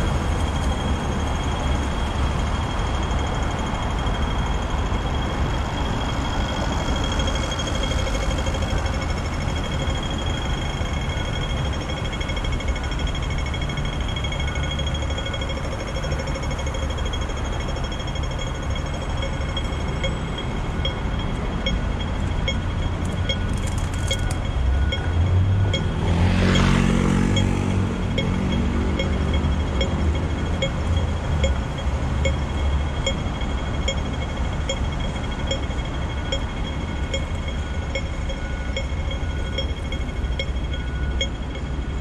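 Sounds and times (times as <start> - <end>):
street traffic rumble: 0.0 - 42.0
crossing signal electronic ticks: 0.4 - 42.0.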